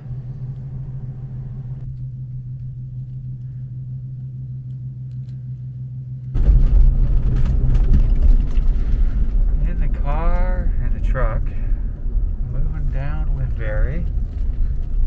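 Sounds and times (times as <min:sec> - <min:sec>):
vehicle engine humming: 0:00.0 - 0:15.0
vehicle rumbling on road: 0:00.0 - 0:15.0.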